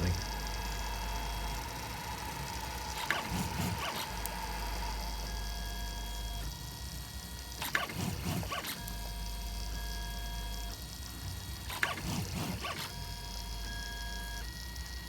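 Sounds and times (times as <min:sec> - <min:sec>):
stepper motors whining: 0:00.0 - 0:10.7, 0:11.7 - 0:15.0.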